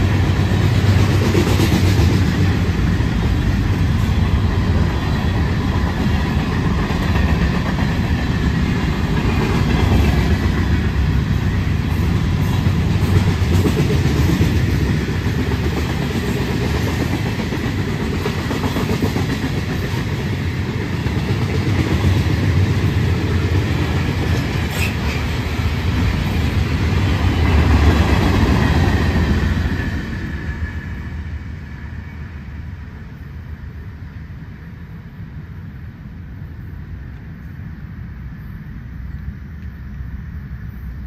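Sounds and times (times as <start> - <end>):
freight train wheels rumbling on rails: 0.0 - 41.0.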